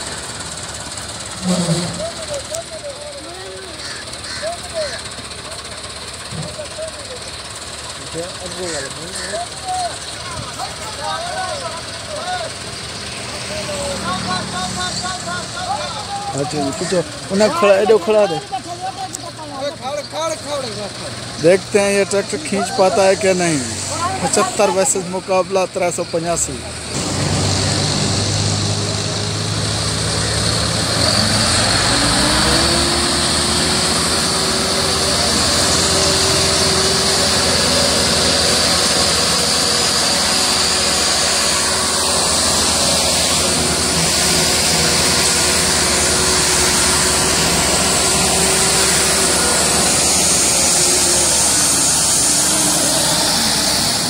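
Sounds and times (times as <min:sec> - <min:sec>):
tractor diesel engine straining: 0:00.0 - 0:54.0.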